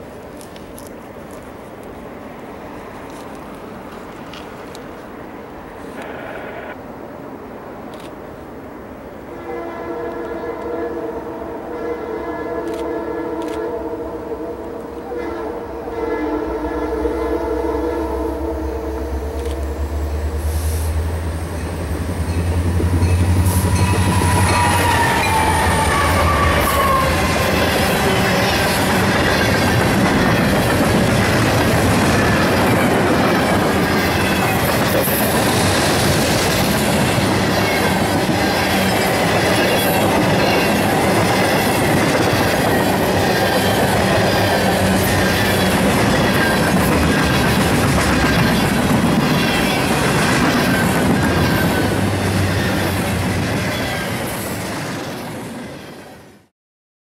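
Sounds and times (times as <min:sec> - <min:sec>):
steel wheels rumbling on rail: 0:09.0 - 0:56.5.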